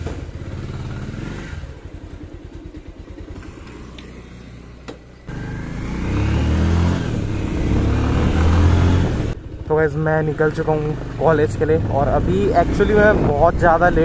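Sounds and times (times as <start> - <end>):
motorcycle engine idling and accelerating: 0.0 - 14.0.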